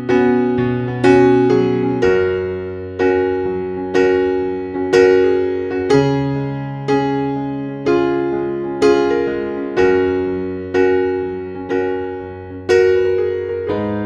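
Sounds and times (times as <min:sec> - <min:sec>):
gentle electric piano chords: 0:00.0 - 0:14.0.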